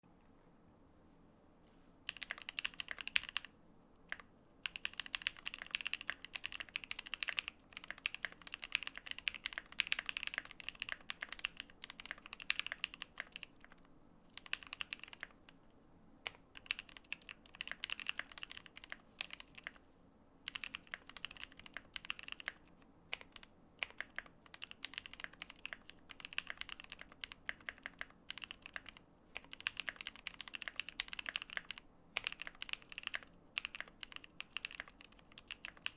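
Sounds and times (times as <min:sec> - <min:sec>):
mechanical keyboard typing: 0:02.1 - 0:03.5, 0:04.1 - 0:15.6, 0:16.2 - 0:19.8, 0:20.5 - 0:35.9.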